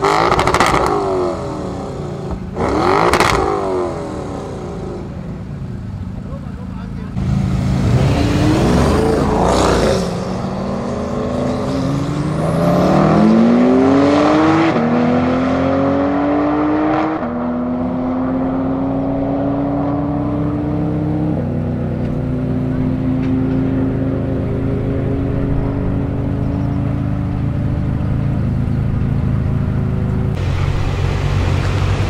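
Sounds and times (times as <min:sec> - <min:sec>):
cars accelerating hard: 0:00.0 - 0:05.2, 0:07.2 - 0:28.0
car engines passing closely: 0:00.0 - 0:32.0.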